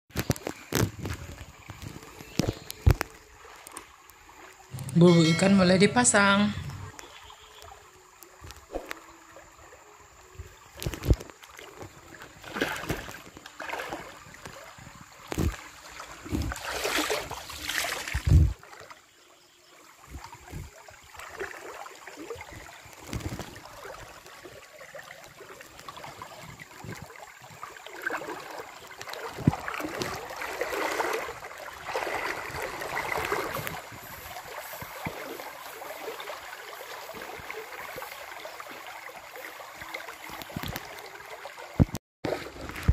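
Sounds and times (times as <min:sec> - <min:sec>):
water splashing from wading: 0:00.1 - 0:42.9
stream current running: 0:00.2 - 0:42.9.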